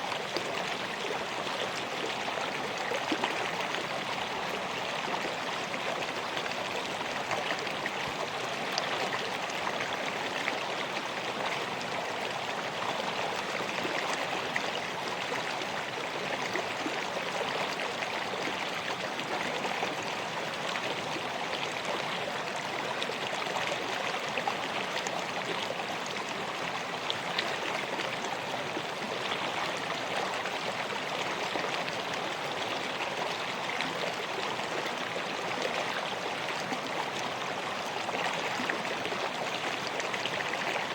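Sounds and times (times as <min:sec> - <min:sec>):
river flowing: 0:00.0 - 0:40.9.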